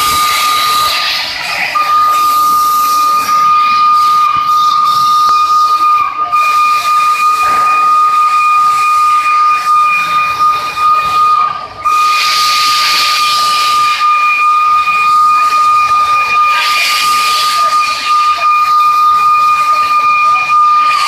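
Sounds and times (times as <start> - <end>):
hiss of escaping steam: 0.0 - 21.0
steam locomotive whistle: 0.0 - 21.0.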